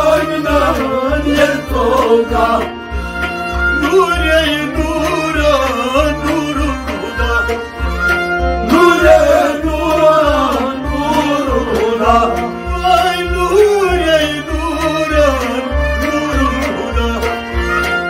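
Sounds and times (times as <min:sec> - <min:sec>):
man singing: 0:00.0 - 0:02.7, 0:03.7 - 0:07.6, 0:08.6 - 0:17.8
harmonium drone: 0:00.0 - 0:18.0
plucked string instrument: 0:00.0 - 0:18.0.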